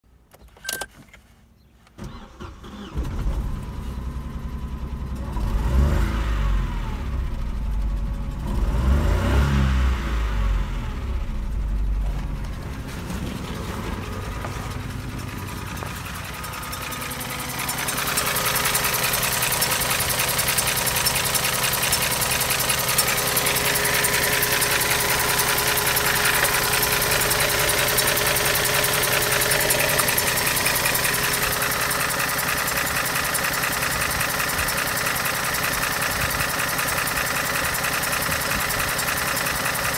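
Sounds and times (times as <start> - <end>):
car engine idling: 2.0 - 5.8, 6.4 - 9.0, 9.8 - 39.9
car engine starting and revving: 2.0 - 39.8.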